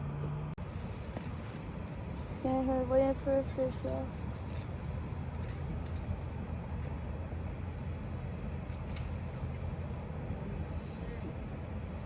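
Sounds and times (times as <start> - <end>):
crickets trilling: 0.6 - 12.0.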